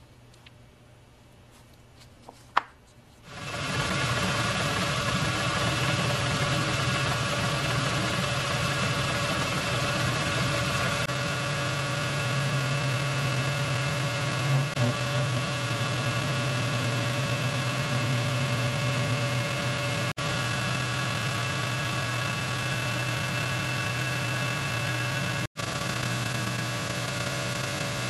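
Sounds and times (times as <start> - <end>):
metal lathe humming and whining: 3.3 - 28.0.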